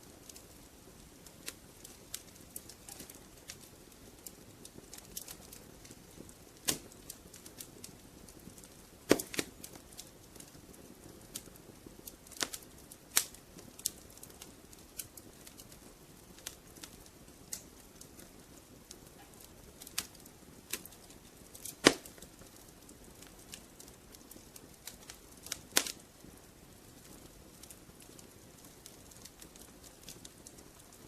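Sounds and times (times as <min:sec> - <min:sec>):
soft steady hiss: 0:00.0 - 0:31.0
wood fire crackling and popping: 0:00.0 - 0:31.0.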